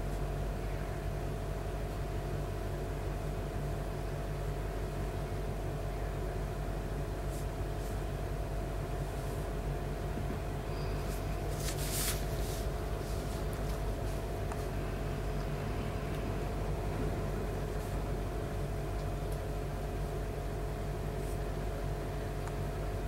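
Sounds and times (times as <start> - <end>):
low hum with constant tones: 0.0 - 23.0.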